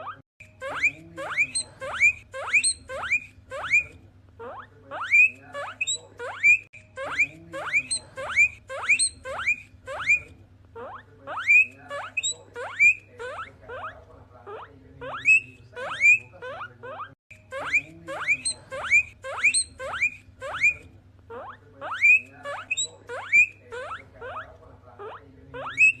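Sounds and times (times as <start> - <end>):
guinea pigs wheeking: 0.0 - 26.0.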